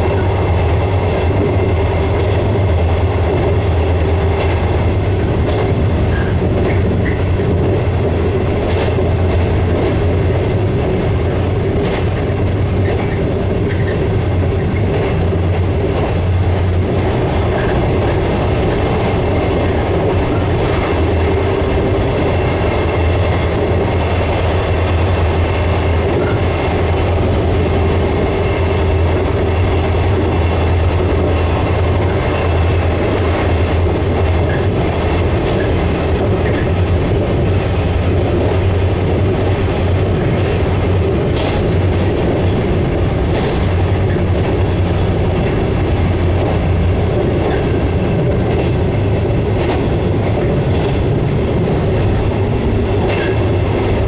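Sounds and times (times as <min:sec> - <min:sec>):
faint clicks over rails: 0:00.0 - 0:54.0
train wheels rumbling: 0:00.0 - 0:54.0.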